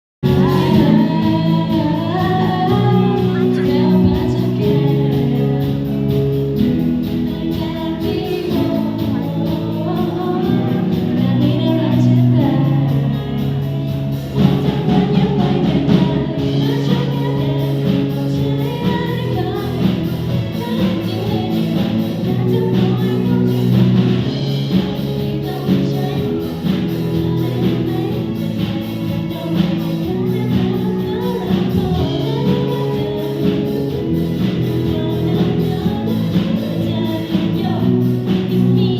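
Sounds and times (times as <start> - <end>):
instrumental backing music: 0.2 - 38.9
person singing: 0.2 - 38.9.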